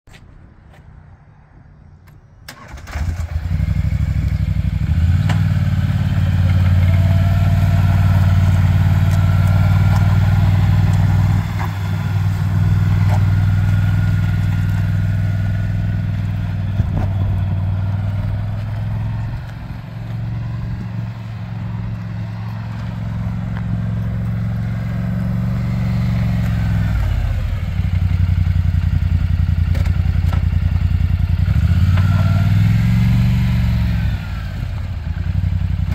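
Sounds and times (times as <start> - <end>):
quad bike engine revving: 2.9 - 35.9.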